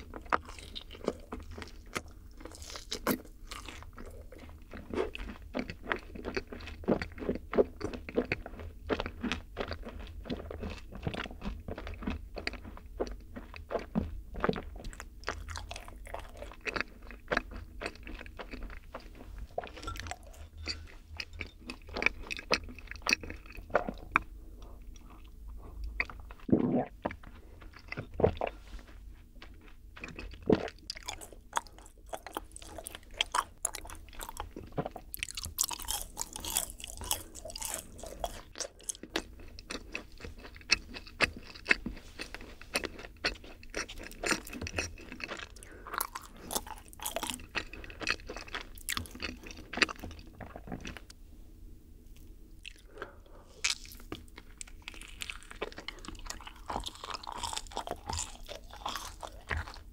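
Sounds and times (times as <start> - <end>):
crunchy cookie chewing: 0.0 - 51.2, 52.0 - 59.9.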